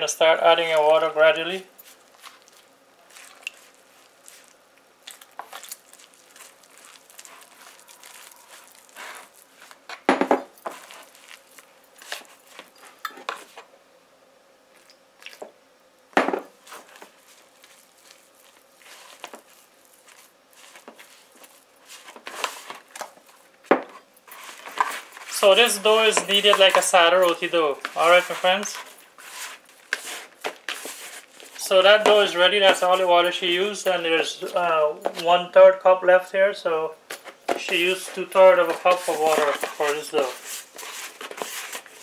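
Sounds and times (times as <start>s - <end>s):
hands squishing dough: 0.5s - 13.6s, 16.6s - 23.7s, 24.3s - 33.8s, 37.3s - 42.0s.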